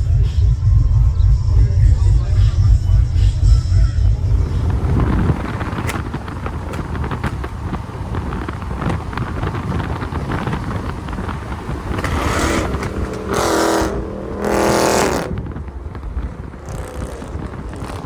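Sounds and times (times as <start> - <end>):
vehicle engine idling and revving: 0.0 - 18.0.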